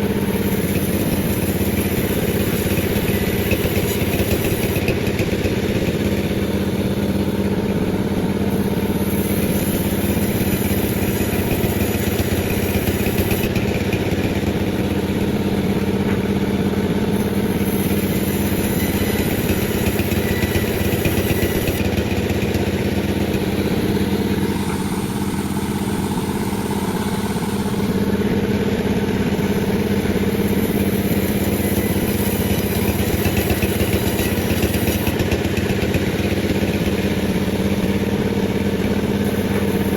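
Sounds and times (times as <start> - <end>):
chainsaw sawing a log: 0.0 - 39.9.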